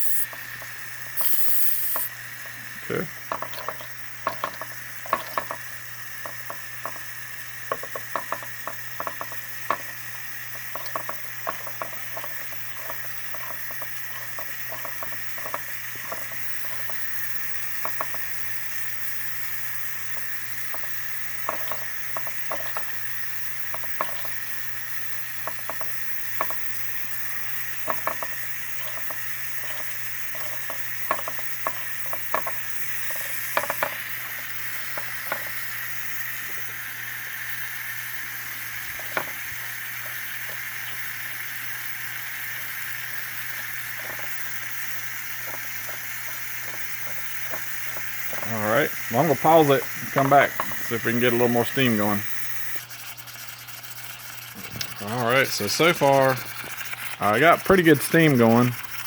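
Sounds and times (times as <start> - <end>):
crackles and spits: 0.0 - 59.0
steam hissing: 0.0 - 59.0.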